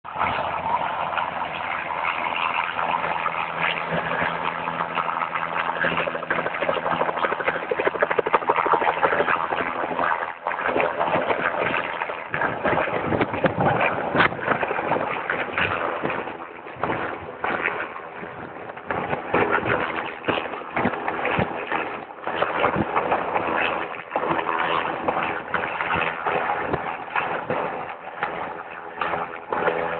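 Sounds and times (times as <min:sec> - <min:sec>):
helicopter hovering: 0:00.0 - 0:29.9
rotor downwash gusting on microphone: 0:00.1 - 0:29.9.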